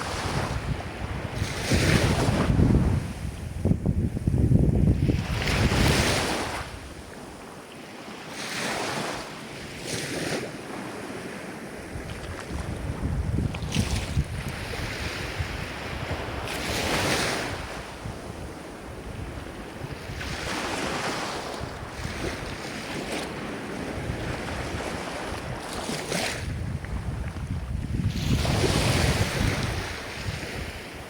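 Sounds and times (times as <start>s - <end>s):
waves breaking and washing in: 0.0s - 31.0s.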